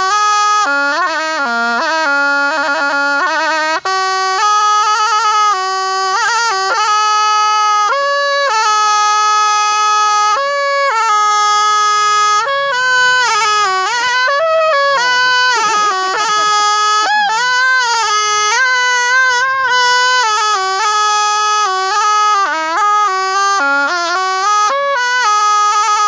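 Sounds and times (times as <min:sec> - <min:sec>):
reed oboe solo melody: 0:00.0 - 0:26.0.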